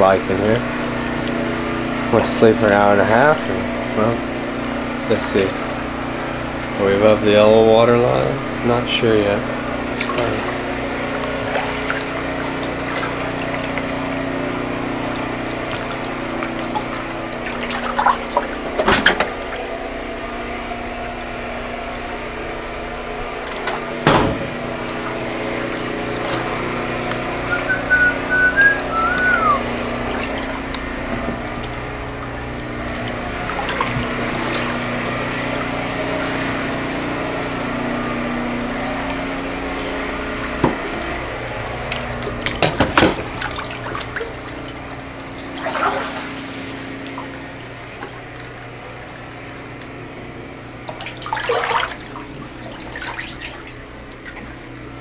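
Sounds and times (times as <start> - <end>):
steady low hum: 0.0 - 55.0
water sloshing from wading: 7.8 - 55.0.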